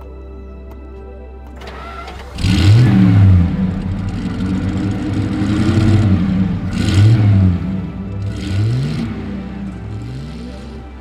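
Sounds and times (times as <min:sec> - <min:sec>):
car engine revving: 0:01.6 - 0:11.0.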